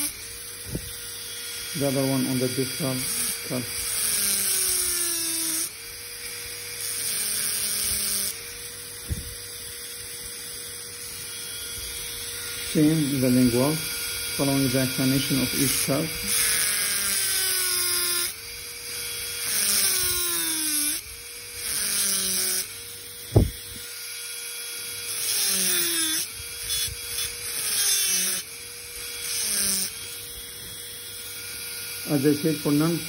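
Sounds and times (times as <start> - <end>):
dental drill whining: 0.0 - 33.0
gritty cutting noise: 0.0 - 33.0.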